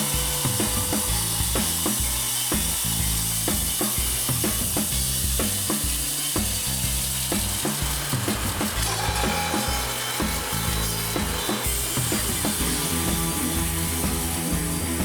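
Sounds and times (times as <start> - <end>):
band sawmill cutting wood: 0.0 - 15.0
music with steady beat and bass: 0.0 - 15.0.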